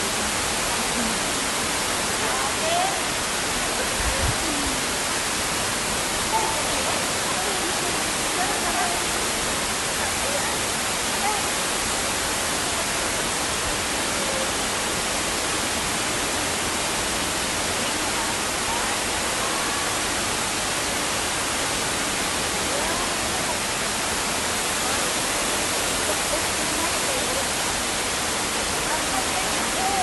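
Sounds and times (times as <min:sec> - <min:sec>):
waterfall pouring into pool: 0:00.0 - 0:30.0.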